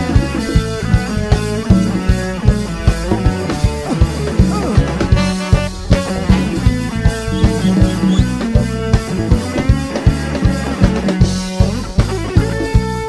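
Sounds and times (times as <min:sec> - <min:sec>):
drum kit steady beat: 0:00.0 - 0:13.0
latin fusion band playing: 0:00.0 - 0:13.0.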